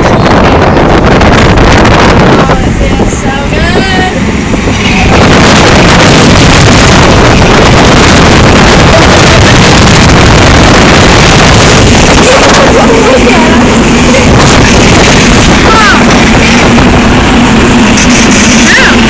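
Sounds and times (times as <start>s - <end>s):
strong wind blast on microphone: 0.0s - 19.0s.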